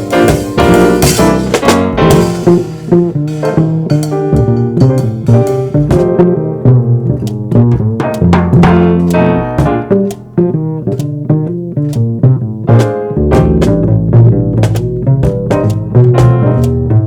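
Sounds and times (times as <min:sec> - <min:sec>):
bass notes: 0:00.0 - 0:17.0
drum strikes: 0:00.0 - 0:17.0
jazz trio playing: 0:00.0 - 0:17.0.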